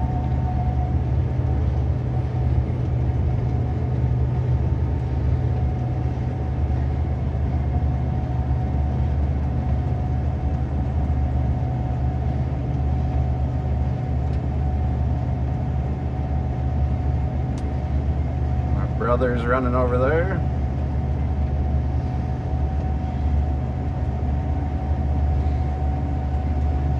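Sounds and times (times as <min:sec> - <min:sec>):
combine harvester engine drone: 0:00.0 - 0:26.9
thin steady whine: 0:00.0 - 0:26.9.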